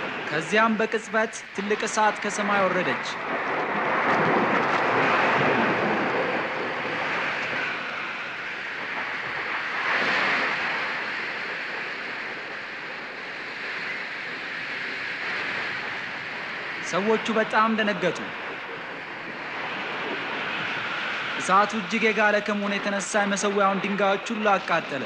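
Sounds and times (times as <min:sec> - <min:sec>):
fire blazing: 0:00.0 - 0:25.0.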